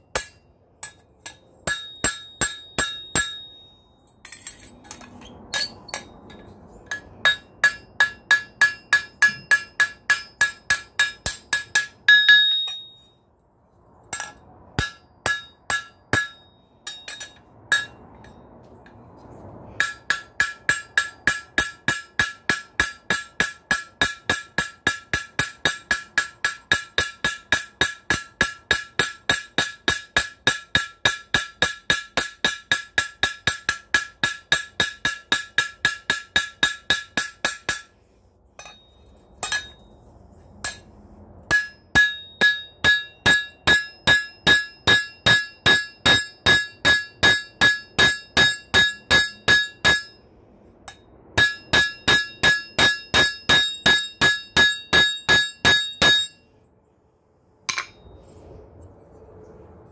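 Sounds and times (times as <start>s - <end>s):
hammer ringing on metal: 0.0s - 3.8s, 5.5s - 13.0s, 14.1s - 18.4s, 19.8s - 37.9s, 41.5s - 50.2s, 50.9s - 56.6s.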